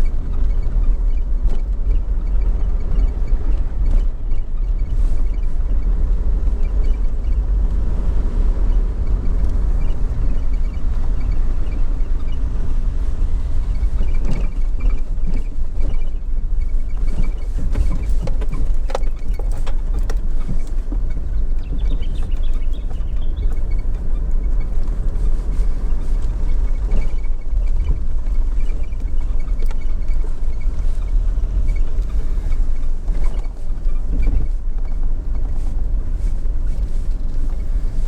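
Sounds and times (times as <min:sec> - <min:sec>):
vehicle rumbling on dirt road: 0:00.0 - 0:38.0.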